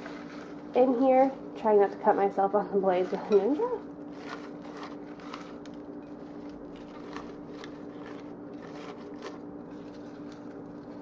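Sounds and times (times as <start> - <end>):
spinach leaves rustling and crackling: 0.0 - 11.0.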